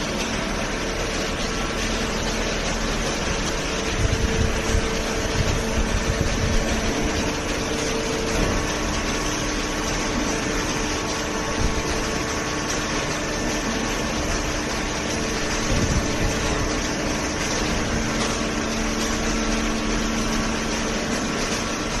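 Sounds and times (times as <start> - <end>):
baler machine humming: 0.0 - 22.0.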